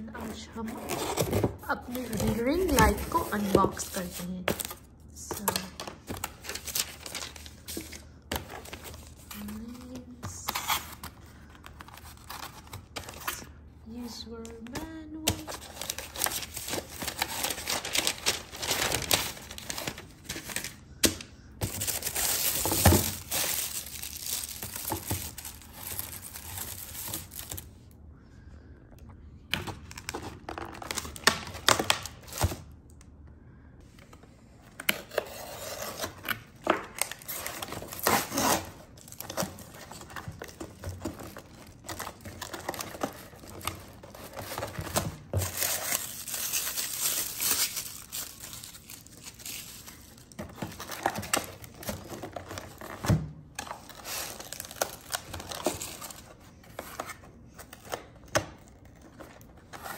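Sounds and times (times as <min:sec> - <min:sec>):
packaging rustling and crinkling: 0:00.0 - 0:27.8, 0:29.7 - 0:32.7, 0:33.9 - 0:59.9.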